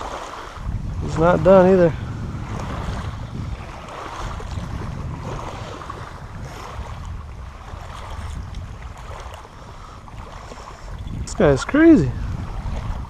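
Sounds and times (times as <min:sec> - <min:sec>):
water noise: 0:00.0 - 0:13.0
wind rumbling on microphone: 0:00.0 - 0:13.0.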